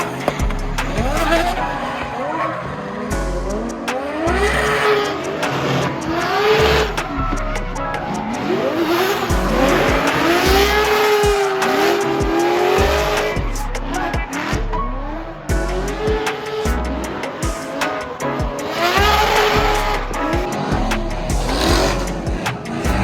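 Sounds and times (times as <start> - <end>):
music with steady bass: 0.0 - 2.0, 3.1 - 23.0
car engines revving: 0.0 - 23.0
tires squealing: 0.0 - 23.0.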